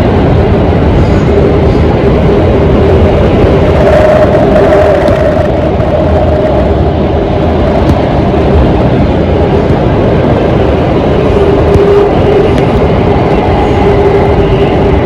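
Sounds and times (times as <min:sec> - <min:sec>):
faint traction whine: 0:00.0 - 0:15.0
low whine: 0:00.0 - 0:15.0
wheels rumbling on rail: 0:00.0 - 0:15.0.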